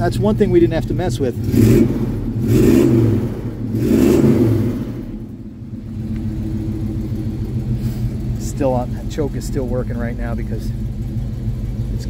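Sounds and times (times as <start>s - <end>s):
pickup engine revving and idling: 0.0s - 12.0s.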